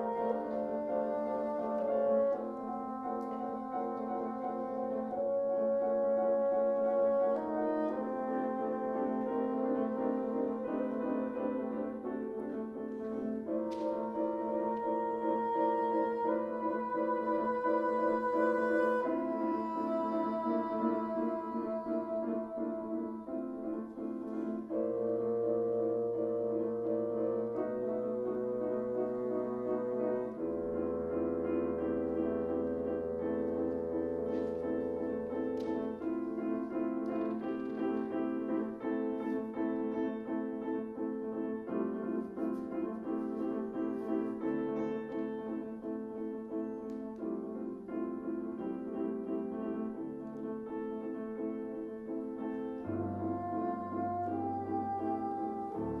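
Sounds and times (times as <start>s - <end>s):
bassoon: 0.0s - 56.0s
piano: 0.0s - 56.0s.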